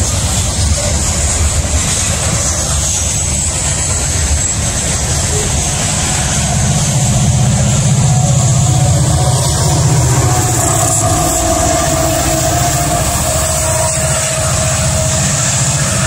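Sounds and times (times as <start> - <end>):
diesel locomotive drone: 0.0 - 16.0
freight train wheels rumbling: 0.0 - 16.0.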